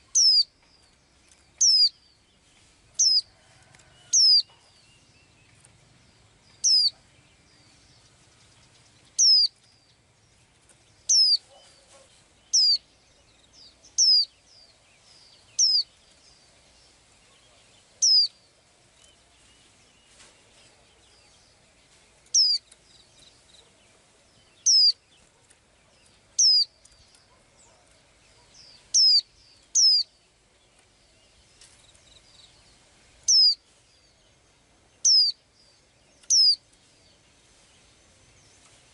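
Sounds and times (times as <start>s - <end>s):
small bird chirping: 0.0s - 38.9s.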